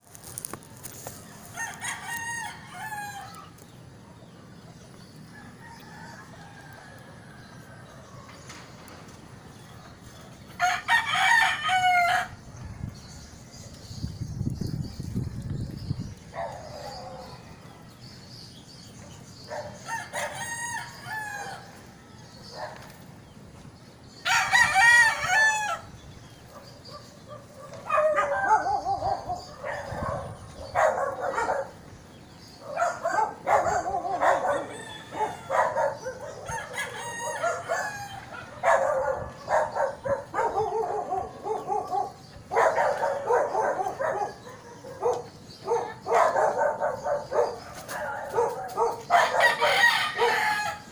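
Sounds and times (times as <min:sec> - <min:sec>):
roosters crowing: 0:01.0 - 0:03.7, 0:04.7 - 0:14.0, 0:19.3 - 0:23.0, 0:24.0 - 0:50.9.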